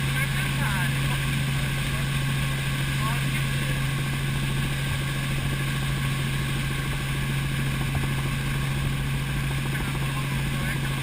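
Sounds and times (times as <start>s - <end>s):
helicopter engine and rotor noise: 0.0s - 11.0s.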